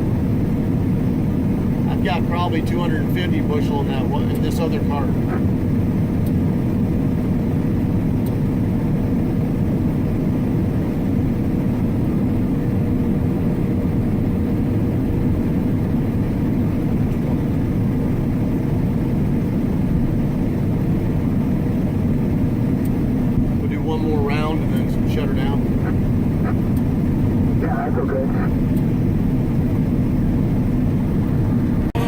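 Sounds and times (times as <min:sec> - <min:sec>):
faint steady whine: 0:00.0 - 0:32.0
harvest machinery engine drone: 0:00.0 - 0:32.0.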